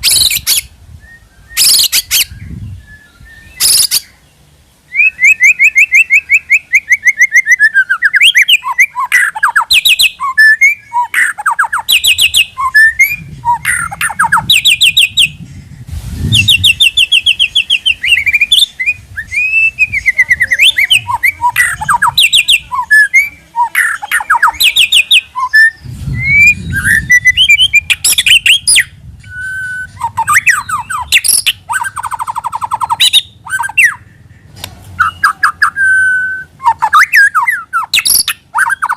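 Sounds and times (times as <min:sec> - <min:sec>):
songbird singing trills and whistles: 0:00.0 - 0:38.9.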